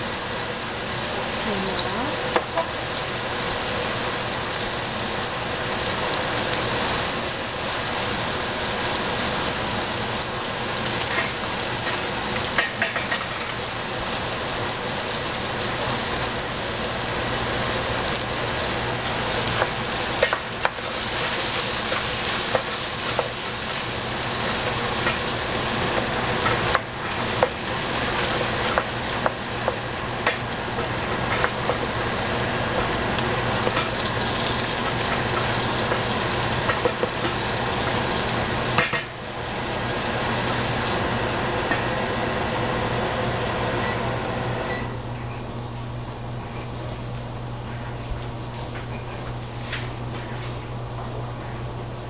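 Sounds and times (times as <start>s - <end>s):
food sizzling in a frying pan: 0.0s - 43.7s.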